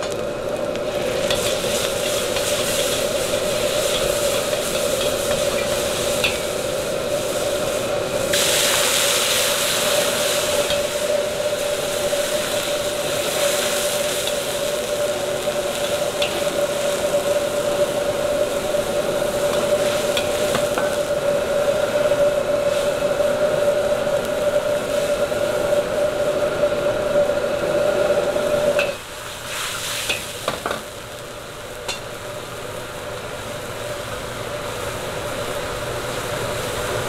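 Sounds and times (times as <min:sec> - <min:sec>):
steady hum: 0:00.0 - 0:37.0
wok sizzling and hissing: 0:00.0 - 0:37.0.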